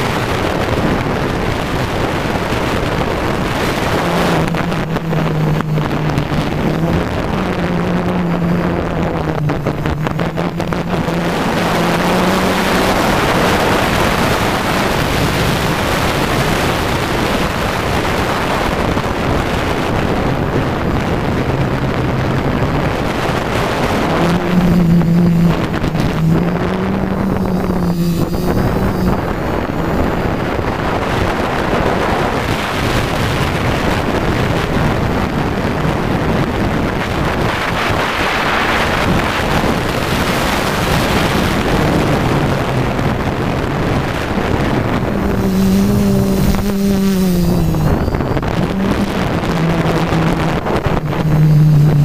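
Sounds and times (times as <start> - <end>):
propeller wind rush: 0.0 - 52.0
quadcopter motors droning: 0.0 - 52.0
wind buffeting microphone: 0.0 - 52.0.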